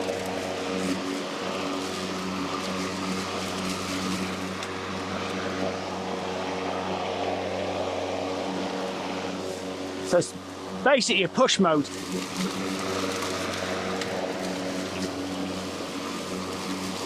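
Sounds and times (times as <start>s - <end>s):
lawnmower humming: 0.0s - 17.0s.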